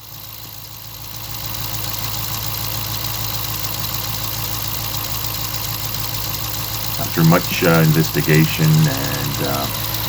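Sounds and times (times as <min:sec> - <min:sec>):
car engine idling with ticking: 0:00.0 - 0:10.0.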